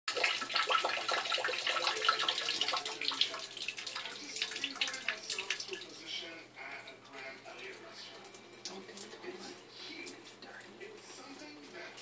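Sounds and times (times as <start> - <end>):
water running and splashing: 0.1 - 12.0.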